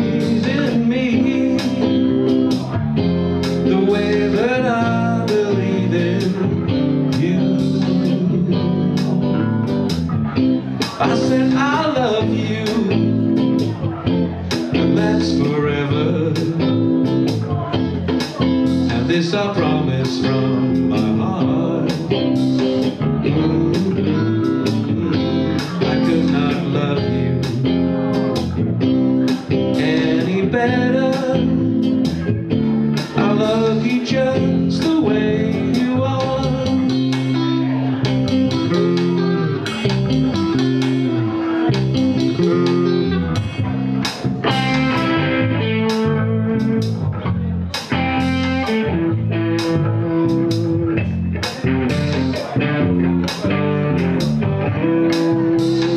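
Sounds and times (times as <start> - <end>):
bass guitar: 0.0 - 55.9
electric guitar: 0.0 - 55.9.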